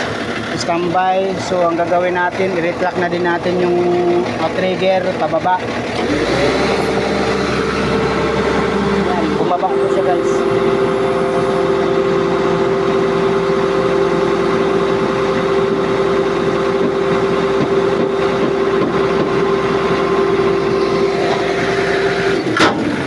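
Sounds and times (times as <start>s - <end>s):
hydraulic pump whine: 0.0s - 23.0s
truck engine running: 0.0s - 23.0s.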